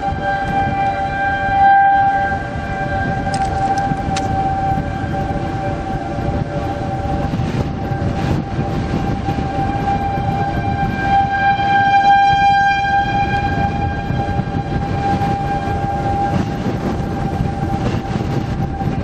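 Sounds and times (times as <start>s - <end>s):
low rumble: 0.0s - 19.0s
warning siren steady tone: 0.0s - 19.0s.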